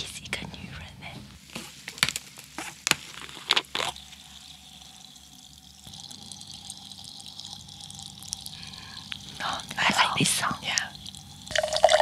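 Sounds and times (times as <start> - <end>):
faint fizz: 1.4 - 12.0.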